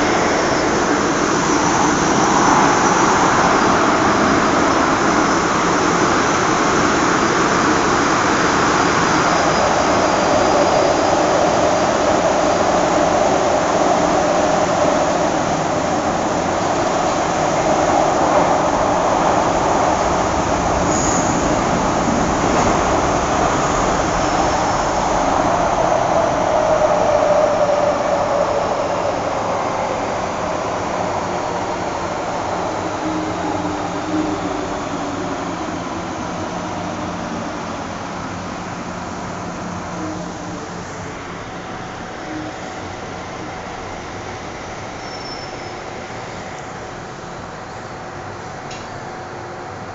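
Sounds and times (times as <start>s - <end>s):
train ventilation drone: 0.0s - 49.9s.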